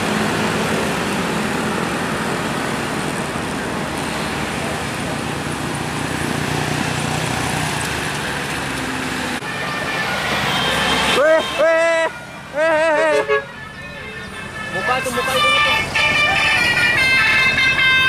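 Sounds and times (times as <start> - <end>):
road traffic passing: 0.0 - 18.0.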